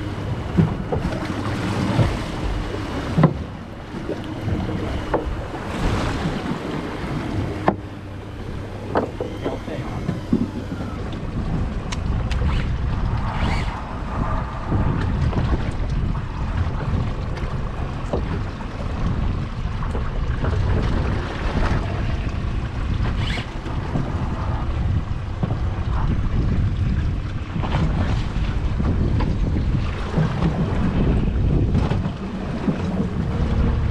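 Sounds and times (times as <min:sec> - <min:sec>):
sea around boat hull: 0:00.0 - 0:33.9
wind buffeting microphone: 0:00.0 - 0:33.9.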